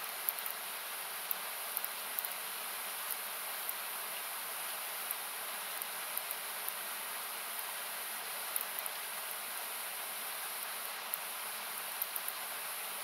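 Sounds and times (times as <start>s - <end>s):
campfire crackling: 0.0s - 12.6s.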